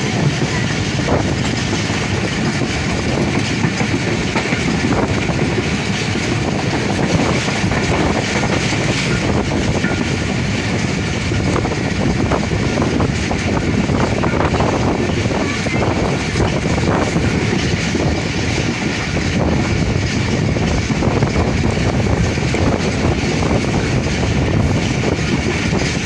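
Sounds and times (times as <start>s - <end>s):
train wheels rumbling on rail: 0.0s - 26.0s
wheels clacking over rail joints: 0.0s - 26.0s.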